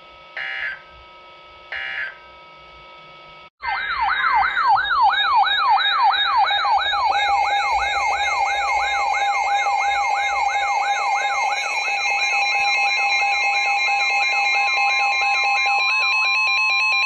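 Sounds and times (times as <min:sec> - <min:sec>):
electronic siren alert tone: 0:00.4 - 0:00.9, 0:01.7 - 0:02.3, 0:03.6 - 0:17.0.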